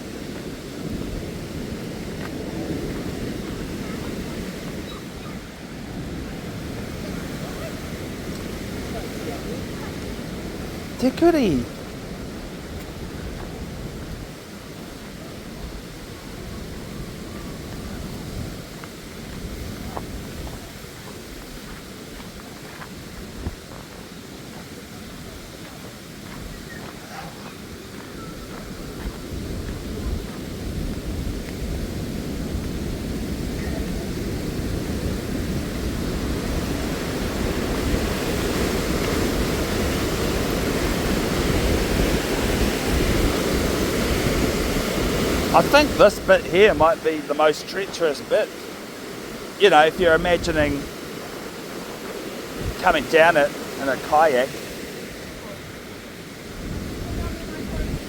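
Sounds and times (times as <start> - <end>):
rush of white water: 0.0 - 58.0.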